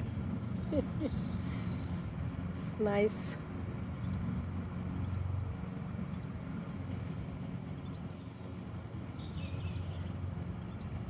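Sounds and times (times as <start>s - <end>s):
distant lawnmower engine drone: 0.0s - 11.0s.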